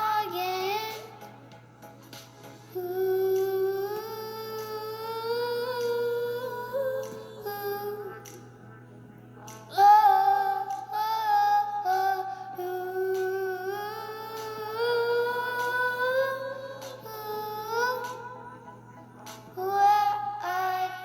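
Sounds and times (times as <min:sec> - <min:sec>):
woman singing a cappella: 0:02.8 - 0:08.4, 0:09.5 - 0:21.0.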